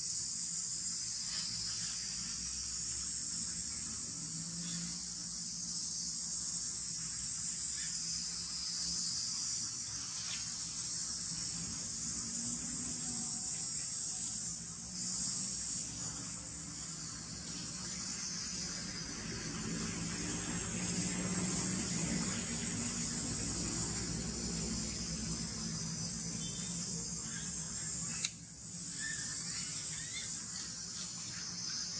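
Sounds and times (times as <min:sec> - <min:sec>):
insect chorus drone: 0:00.0 - 0:31.9.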